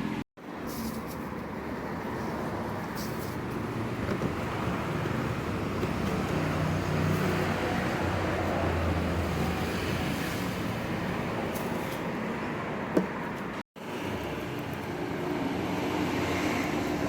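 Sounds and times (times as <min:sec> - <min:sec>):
street traffic noise: 0:00.0 - 0:17.0
vehicle engine hum: 0:00.0 - 0:17.0.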